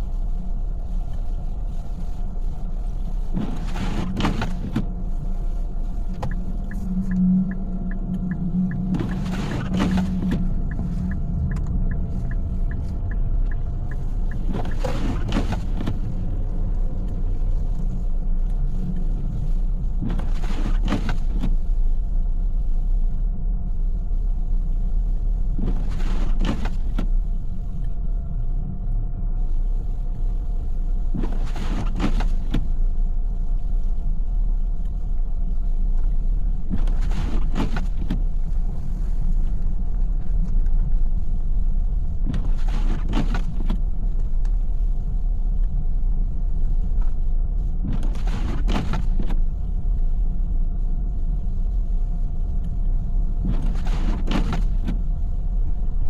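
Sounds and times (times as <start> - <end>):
road and engine rumble: 0.0 - 56.0.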